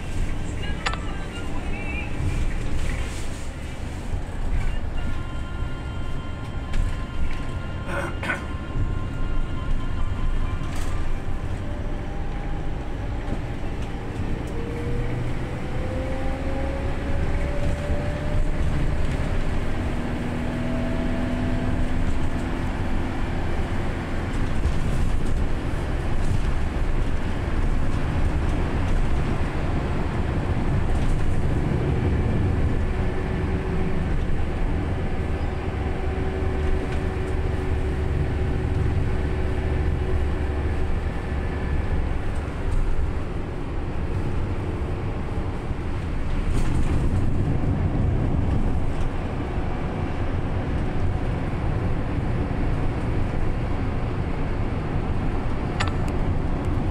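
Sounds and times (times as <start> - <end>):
vehicle rumble from inside: 0.0 - 56.9.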